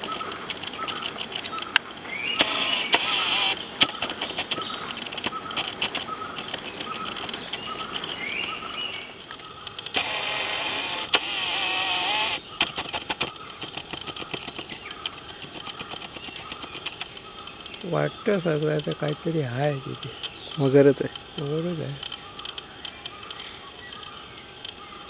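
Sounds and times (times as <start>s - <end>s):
birds whistling rising notes: 0.0s - 25.0s
insect buzz: 0.0s - 25.0s
scattered clicks: 0.0s - 25.0s.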